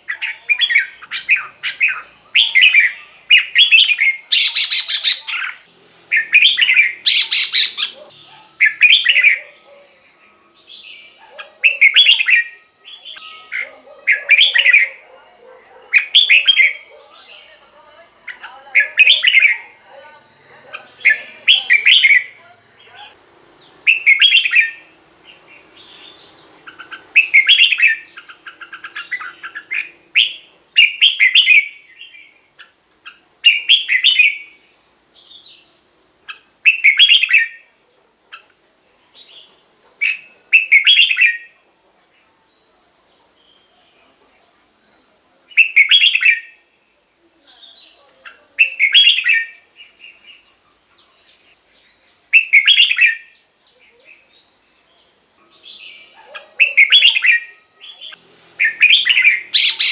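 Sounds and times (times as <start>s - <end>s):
bird singing warbled phrases: 0.0s - 59.9s.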